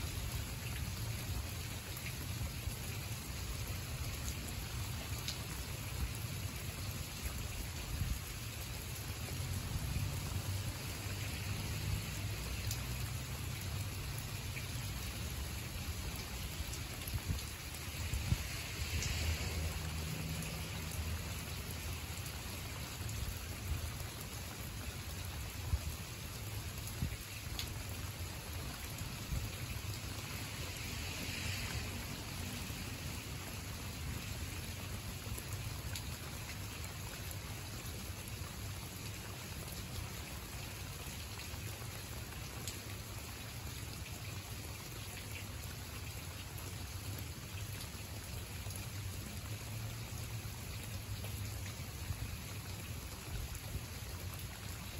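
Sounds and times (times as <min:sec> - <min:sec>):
close raindrops striking: 0:00.0 - 0:54.9
steady rain: 0:00.0 - 0:54.9.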